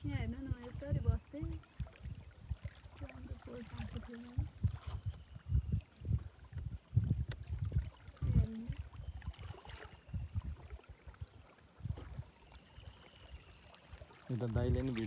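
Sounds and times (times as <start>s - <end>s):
wind buffeting microphone: 0.0s - 12.4s, 14.3s - 15.0s.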